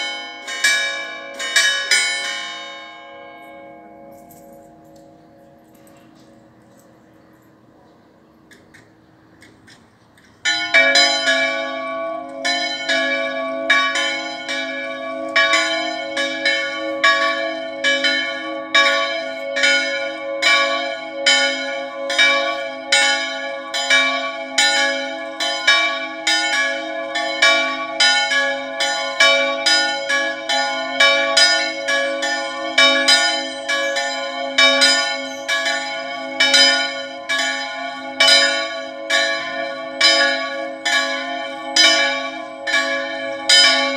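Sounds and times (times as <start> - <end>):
church bells pealing: 0.0 - 9.1, 10.4 - 43.9.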